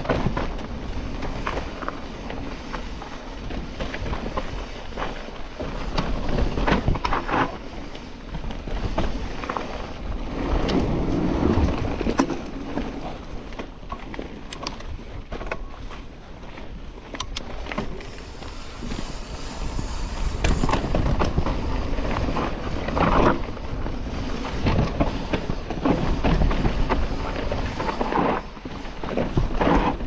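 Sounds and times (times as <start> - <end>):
bike tyres rolling and skidding on dirt: 0.0 - 30.0
wind on microphone: 0.0 - 30.0.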